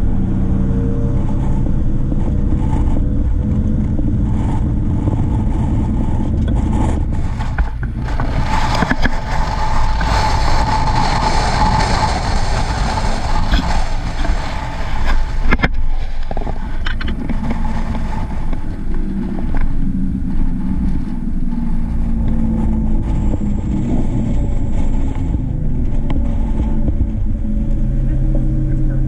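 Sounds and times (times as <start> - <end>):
engine and road rumble: 0.0 - 29.0
wind noise: 0.0 - 29.0.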